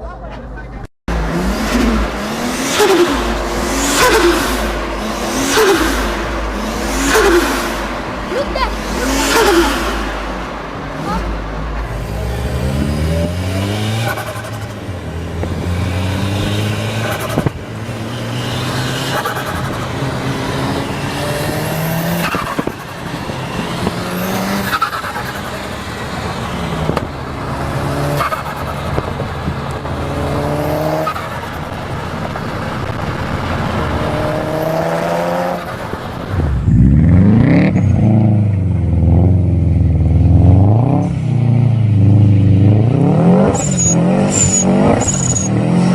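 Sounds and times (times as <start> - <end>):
turbocharged car engine revving: 1.1 - 45.9.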